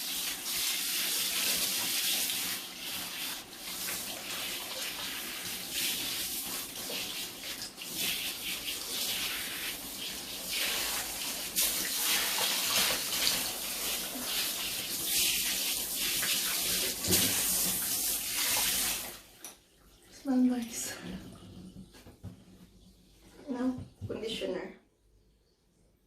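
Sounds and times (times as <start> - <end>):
running water splashing: 0.0 - 22.2.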